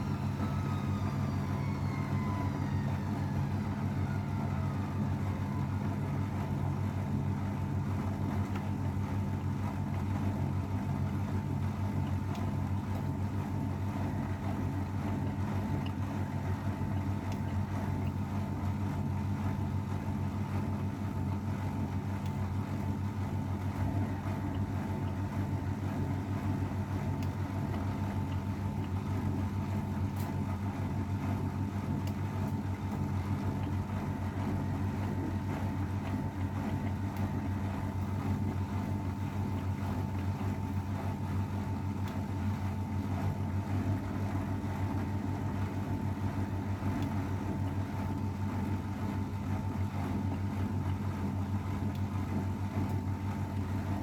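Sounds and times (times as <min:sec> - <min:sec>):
washing machine running: 0:00.0 - 0:54.0.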